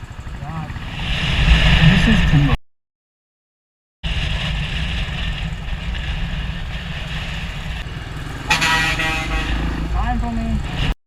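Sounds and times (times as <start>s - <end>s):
motorcycle engine and road rumble: 0.0s - 2.6s, 4.0s - 11.0s
wind rush on microphone: 0.1s - 2.6s, 4.0s - 11.0s.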